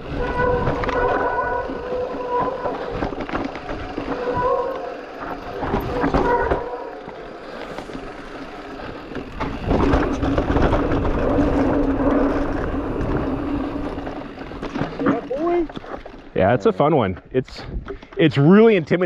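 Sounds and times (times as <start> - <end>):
tyres rolling on dirt trail: 0.0 - 19.0.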